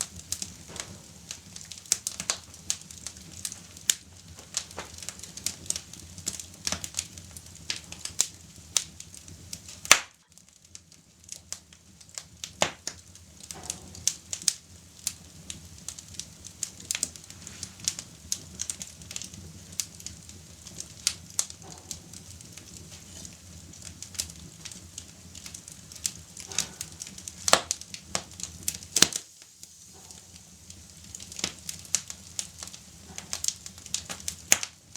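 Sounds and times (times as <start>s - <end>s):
fire crackling and popping: 0.0s - 34.9s.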